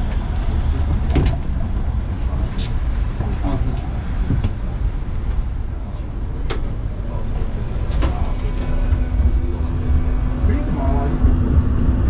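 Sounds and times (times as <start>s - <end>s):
tram running gear rumbling: 0.0s - 12.0s.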